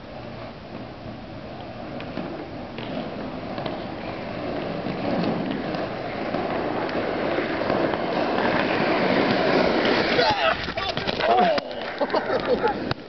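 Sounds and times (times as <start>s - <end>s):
skate wheels rolling on asphalt: 0.0s - 13.0s.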